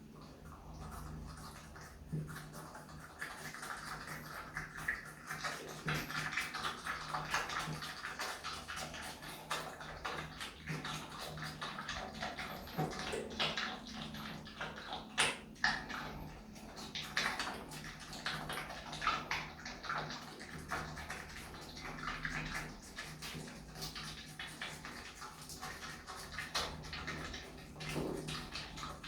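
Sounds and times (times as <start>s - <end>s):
animal chewing with wet crunches: 0.2s - 29.0s.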